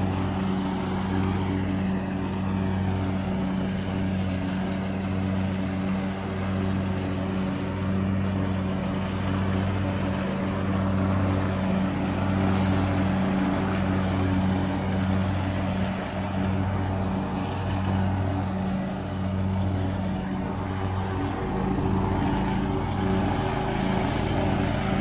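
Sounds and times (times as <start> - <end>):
mower deck whirring hiss: 0.0 - 25.0
riding lawn mower engine: 0.0 - 25.0.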